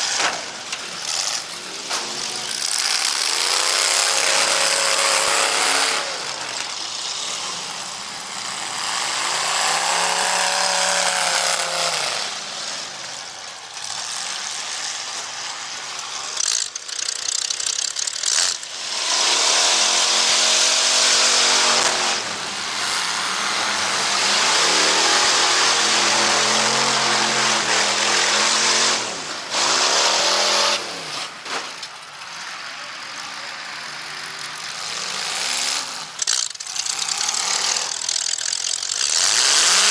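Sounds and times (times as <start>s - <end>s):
car engines revving: 0.0s - 39.9s
continuous rush of noise: 0.0s - 39.9s.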